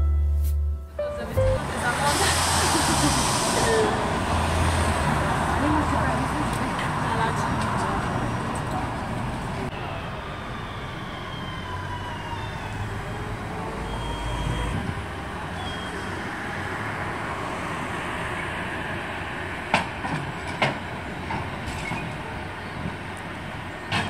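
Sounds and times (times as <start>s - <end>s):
trolleybus rolling on tyres: 1.6s - 24.0s.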